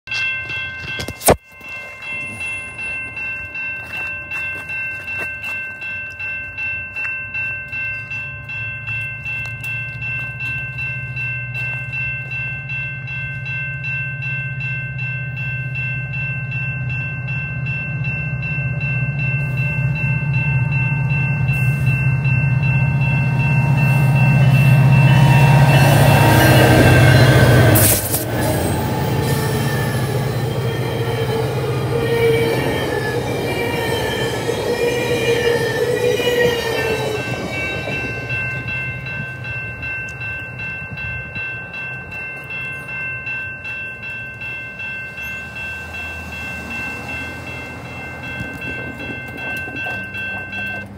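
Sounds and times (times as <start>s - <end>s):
level-crossing warning bell: 0.0s - 50.9s
diesel train rumble: 7.9s - 50.9s.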